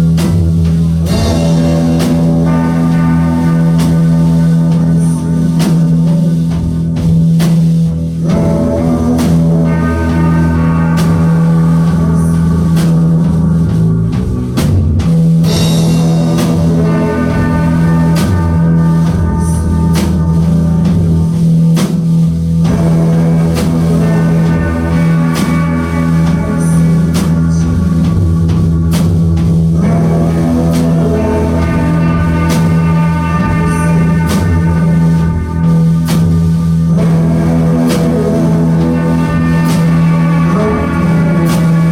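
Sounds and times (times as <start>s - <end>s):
droning bass note: 0.0s - 41.9s
layered guitars: 0.0s - 41.9s
steady driving drum beat: 0.0s - 41.9s.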